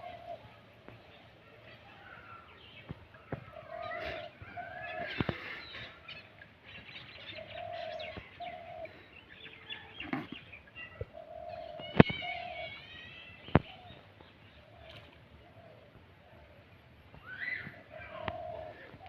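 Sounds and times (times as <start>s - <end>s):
low hooting bird calls: 0.0s - 0.6s, 1.9s - 19.0s
birds chirping: 0.0s - 19.0s.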